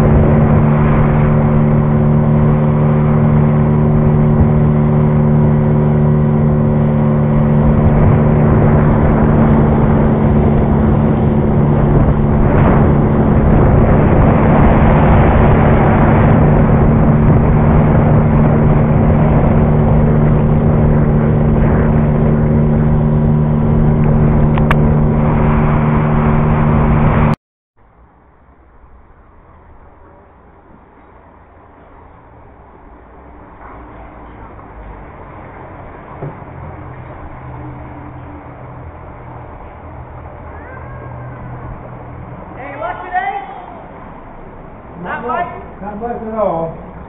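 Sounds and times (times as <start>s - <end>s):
outboard motor running: 0.0s - 27.4s, 29.5s - 47.0s
water noise: 0.0s - 47.0s
wind: 0.0s - 47.0s.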